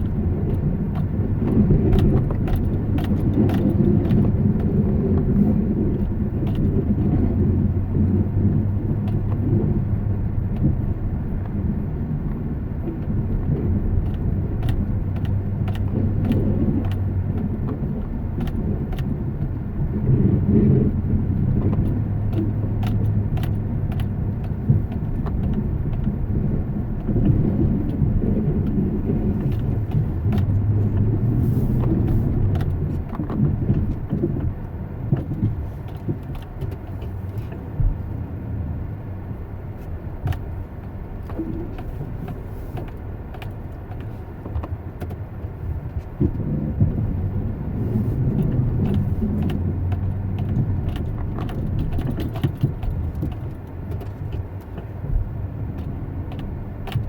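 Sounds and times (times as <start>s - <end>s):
vehicle engine drone: 0.0s - 57.0s.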